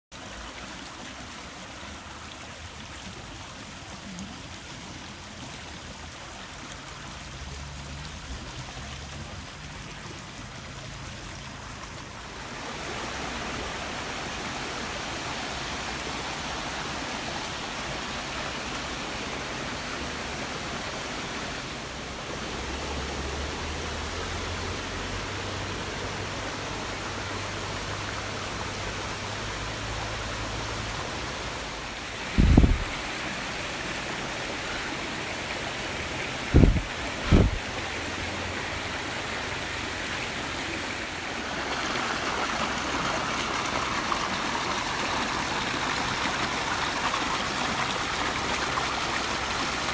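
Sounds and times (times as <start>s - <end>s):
waterfall rushing: 0.1s - 49.9s.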